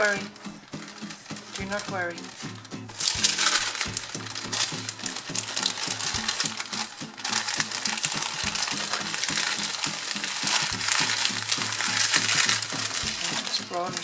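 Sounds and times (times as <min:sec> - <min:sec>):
baking paper crinkling: 0:00.0 - 0:14.0.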